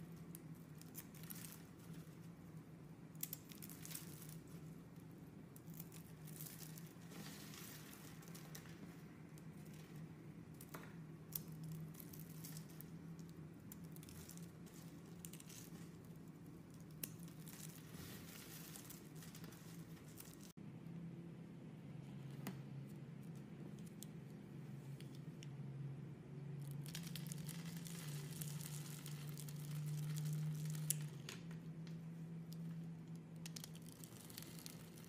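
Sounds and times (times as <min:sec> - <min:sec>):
soap shavings crackling: 0:00.0 - 0:20.6, 0:26.6 - 0:31.5, 0:32.4 - 0:35.0
faint low hum: 0:00.0 - 0:35.0.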